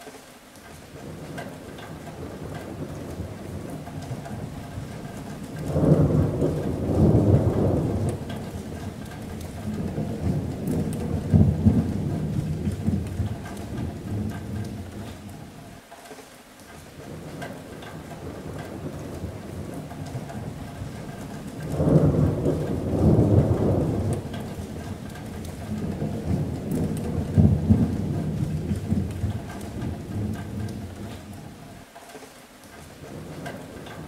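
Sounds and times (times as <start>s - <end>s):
rain on a metal roof: 0.0s - 34.0s
rolling thunder: 1.0s - 15.7s, 17.0s - 31.8s.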